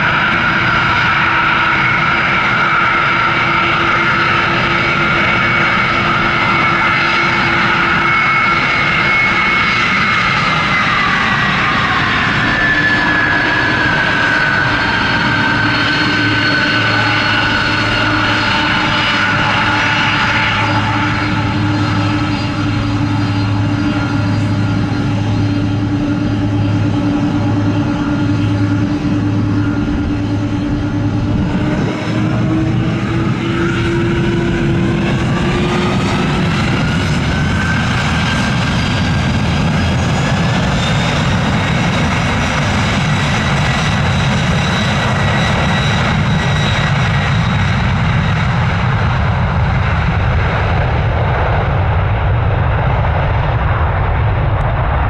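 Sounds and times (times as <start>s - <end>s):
aircraft engines running: 0.0s - 55.0s.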